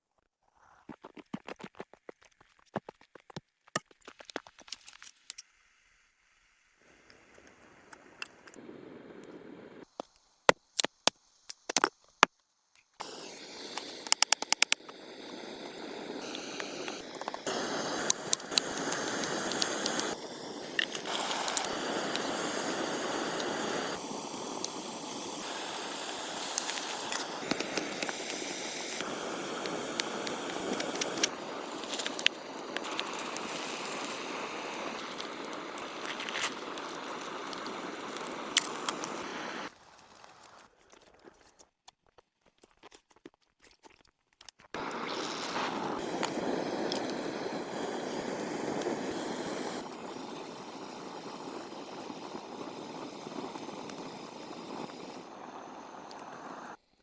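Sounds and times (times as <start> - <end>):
wood fire crackling: 6.8 - 41.6, 44.6 - 56.8.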